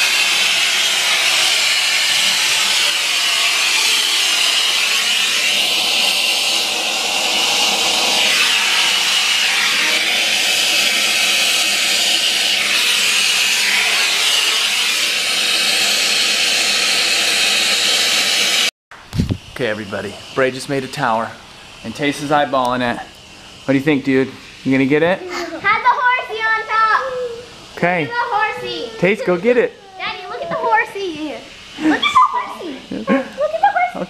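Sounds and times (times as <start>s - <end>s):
soldering torch hissing: 0.0s - 18.7s, 19.5s - 34.0s.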